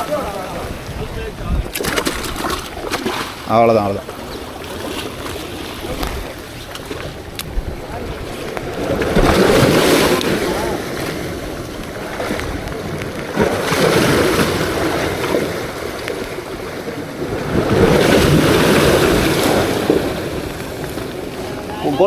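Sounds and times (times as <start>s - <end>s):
sea waves washing in: 0.0s - 22.0s
wind buffeting microphone: 0.0s - 22.0s.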